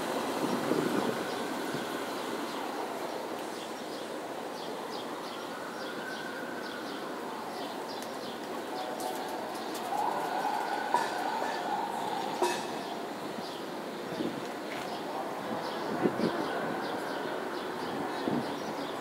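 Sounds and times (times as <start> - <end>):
distant traffic hum: 0.0 - 19.0.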